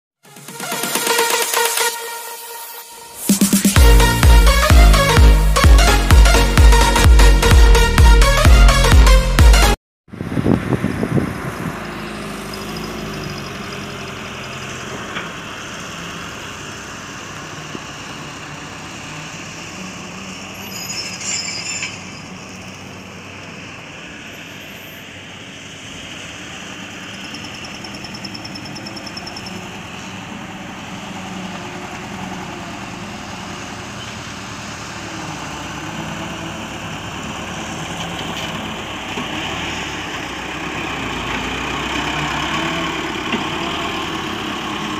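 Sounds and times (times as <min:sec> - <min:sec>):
dump truck engine humming: 0:00.2 - 0:44.9.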